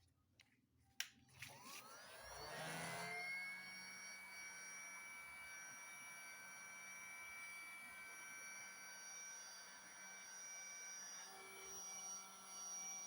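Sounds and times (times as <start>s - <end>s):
heat gun fan whine: 1.4s - 13.0s.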